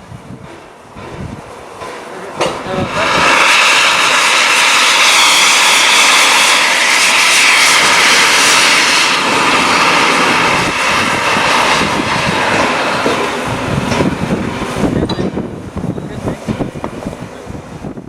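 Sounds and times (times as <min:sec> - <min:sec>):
steam locomotive low pulses: 0:00.0 - 0:18.0
steam hissing from cylinders: 0:00.5 - 0:18.0.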